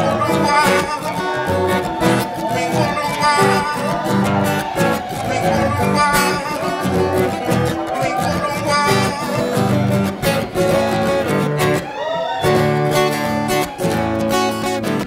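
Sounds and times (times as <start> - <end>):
acoustic guitar picked and strummed: 0.0 - 15.0.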